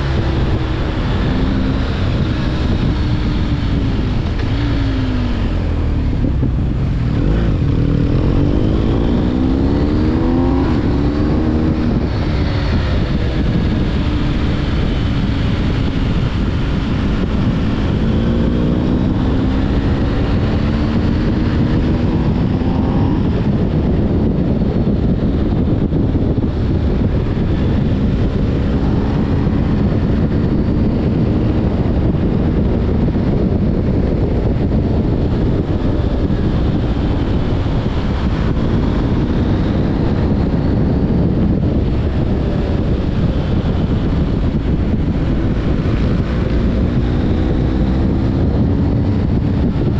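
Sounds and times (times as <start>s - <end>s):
heavy wind: 0.0s - 49.9s
motorcycle engine accelerating: 0.0s - 49.9s
road rumble: 0.0s - 49.9s.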